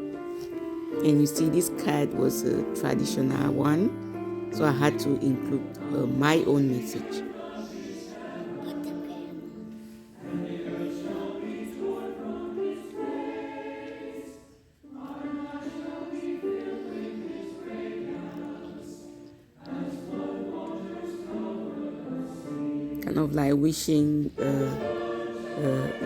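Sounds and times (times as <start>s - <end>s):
choir singing sustained phrases: 0.0s - 23.5s, 24.2s - 26.0s.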